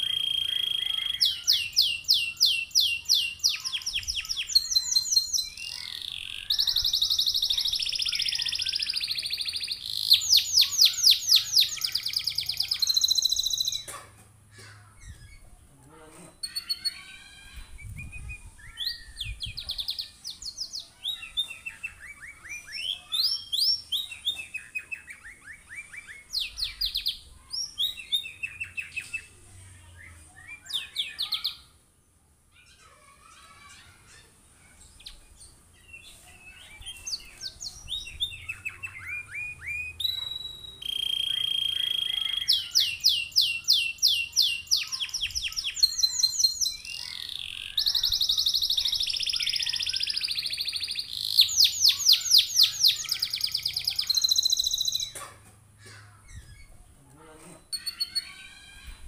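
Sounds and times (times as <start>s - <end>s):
canary singing trills: 0.0s - 13.9s, 14.9s - 31.8s, 32.6s - 55.2s, 55.9s - 59.0s.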